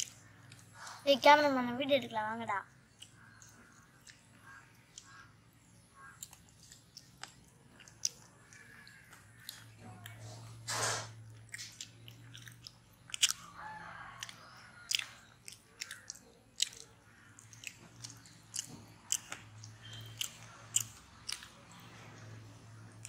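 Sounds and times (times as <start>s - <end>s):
chewing with mouth smacks: 2.9s - 5.3s, 6.1s - 10.6s, 11.2s - 23.0s.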